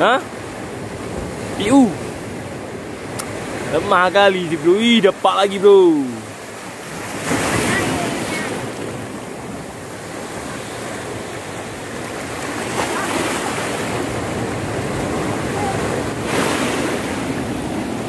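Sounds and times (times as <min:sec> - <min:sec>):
sea waves washing: 0:00.0 - 0:18.0.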